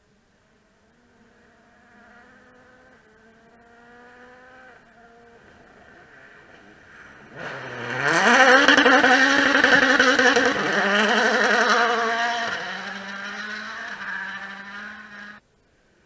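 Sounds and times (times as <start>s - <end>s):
rally car engine accelerating: 0.5s - 15.4s.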